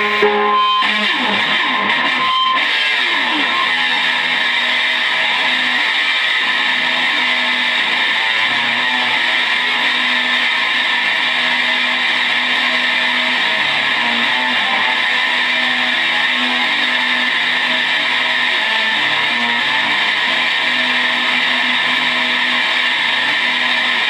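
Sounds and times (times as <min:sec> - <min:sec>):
distorted electric guitar noise: 0:00.0 - 0:24.0.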